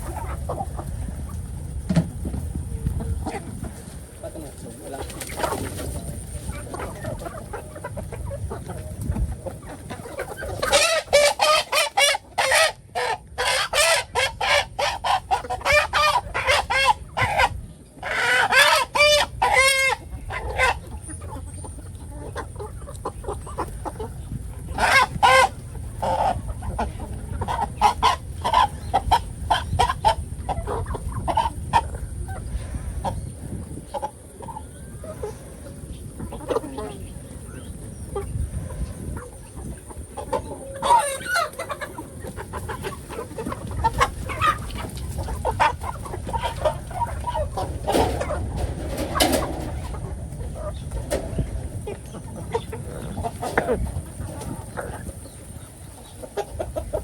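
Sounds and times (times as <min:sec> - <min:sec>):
chickens clucking and cackling: 0:00.0 - 0:57.0.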